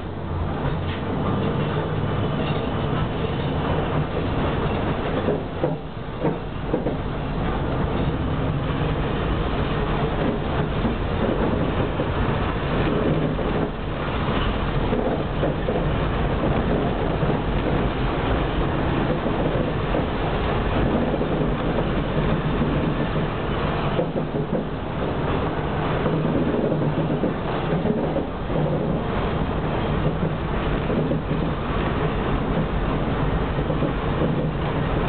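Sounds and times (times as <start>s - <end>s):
tram rumbling on track: 0.0s - 35.0s.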